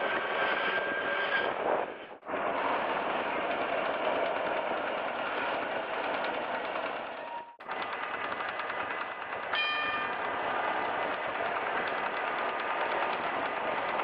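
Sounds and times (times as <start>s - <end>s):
electric tram running: 0.0s - 14.0s.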